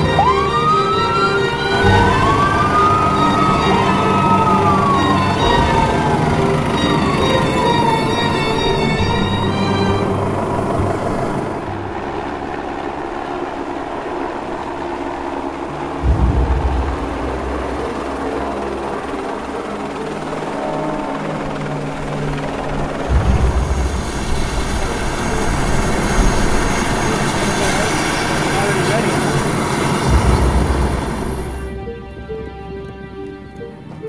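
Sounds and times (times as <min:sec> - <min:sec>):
helicopter rotor beating: 0:00.0 - 0:34.0.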